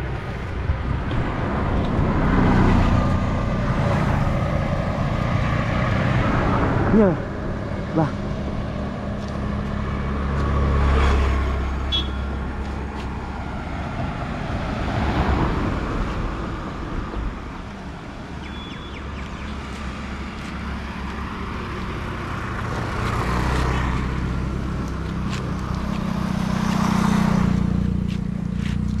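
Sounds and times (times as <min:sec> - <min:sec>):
low engine hum: 0:00.0 - 0:29.0
vehicles passing: 0:00.0 - 0:29.0.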